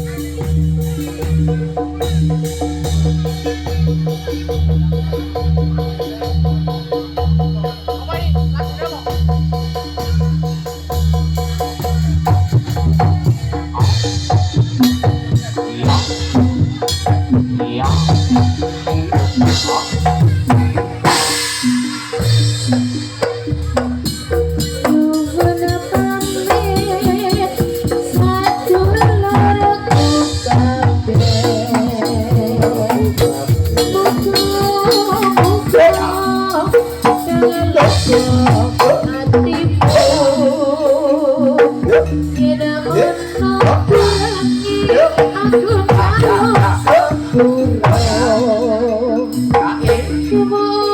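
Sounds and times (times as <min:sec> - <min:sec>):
drums fast beat: 0:00.0 - 0:50.9
rattling percussion: 0:00.0 - 0:50.9.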